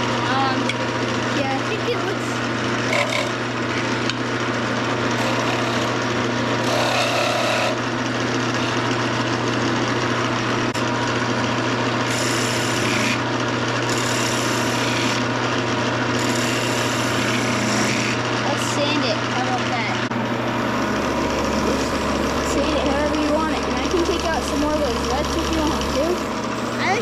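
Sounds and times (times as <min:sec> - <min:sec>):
wood lathe motor humming: 0:00.0 - 0:27.0.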